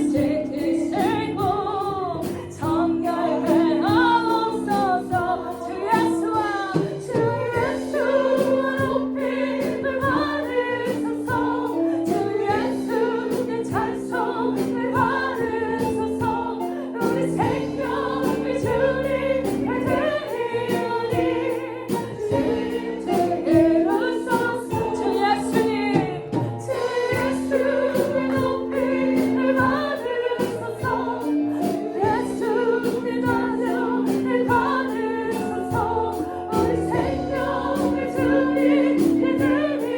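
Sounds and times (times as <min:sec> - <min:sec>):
choir singing a worship song: 0:00.0 - 0:39.9
instrumental accompaniment: 0:00.0 - 0:39.9
steady percussion beat: 0:02.2 - 0:39.9.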